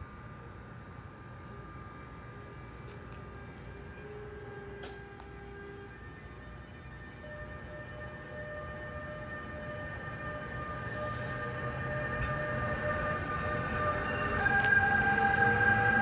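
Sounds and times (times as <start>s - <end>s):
high multi-tone train whine: 0.0s - 16.0s
train rumble: 1.8s - 16.0s.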